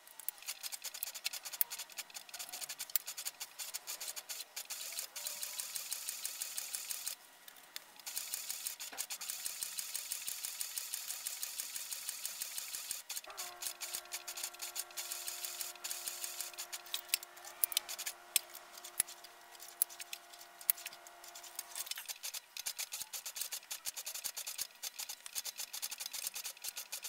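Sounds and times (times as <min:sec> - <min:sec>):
sewing machine stitching: 0:00.3 - 0:07.2, 0:08.0 - 0:27.0
sewing machine hum: 0:00.4 - 0:07.2, 0:08.0 - 0:27.0.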